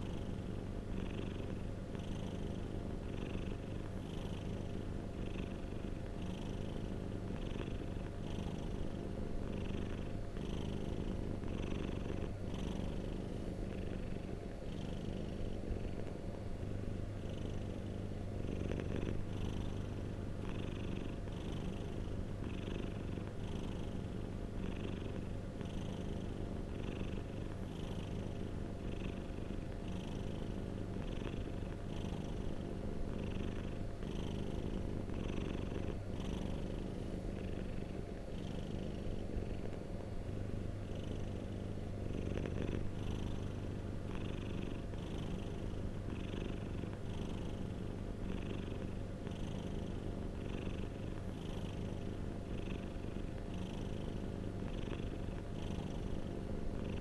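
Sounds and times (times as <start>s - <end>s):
cat purring: 0.0s - 57.0s
faint pulsing hiss: 0.0s - 57.0s.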